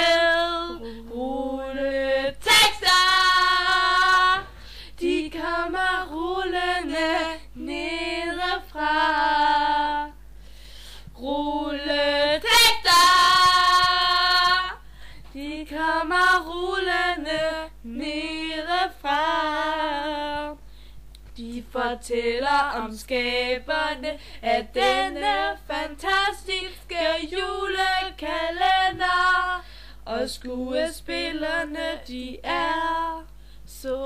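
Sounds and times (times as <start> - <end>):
women singing unaccompanied: 0.0 - 10.3, 11.0 - 20.6, 21.2 - 34.0.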